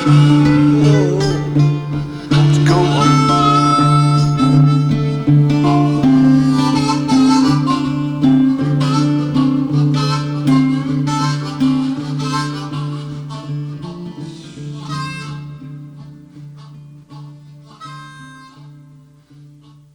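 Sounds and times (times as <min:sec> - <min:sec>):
acoustic guitar: 0:00.0 - 0:19.8
harmonica: 0:00.0 - 0:19.9.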